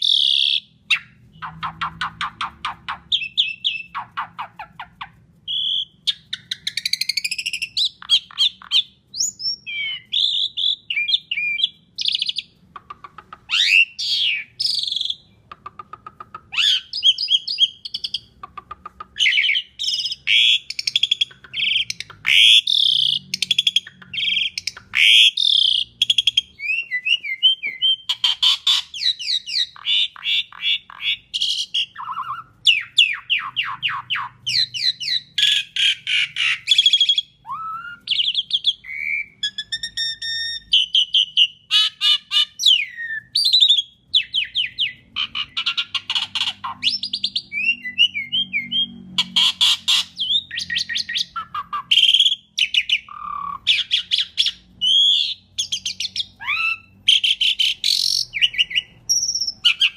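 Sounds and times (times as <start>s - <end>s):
starling singing: 0.0s - 59.9s.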